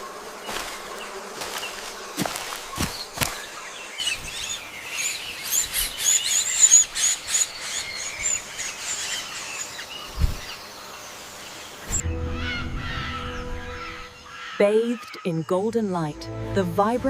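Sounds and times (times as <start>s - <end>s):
small birds chirping: 0.0s - 16.1s.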